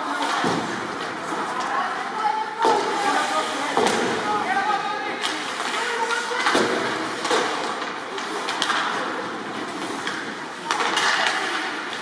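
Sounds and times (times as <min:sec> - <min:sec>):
hockey sticks clacking on puck: 0:00.0 - 0:01.8, 0:02.6 - 0:04.3, 0:05.2 - 0:12.0
skates scraping ice: 0:00.0 - 0:12.0
voices in background: 0:00.0 - 0:12.0.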